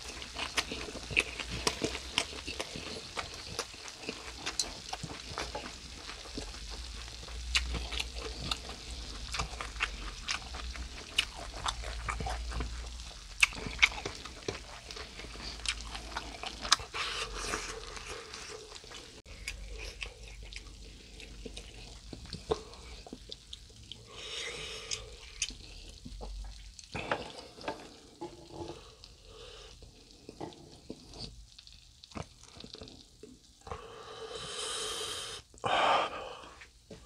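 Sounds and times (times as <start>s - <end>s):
light grill sizzle: 0.0s - 35.4s.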